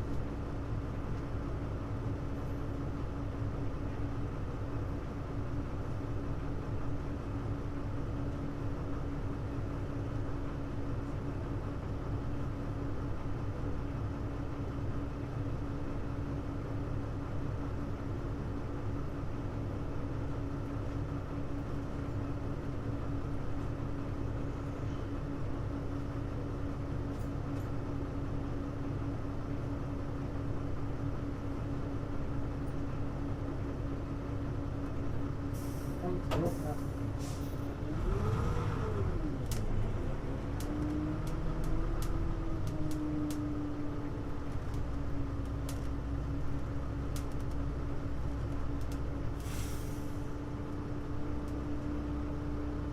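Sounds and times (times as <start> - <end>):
bus engine rumble: 0.0 - 52.9.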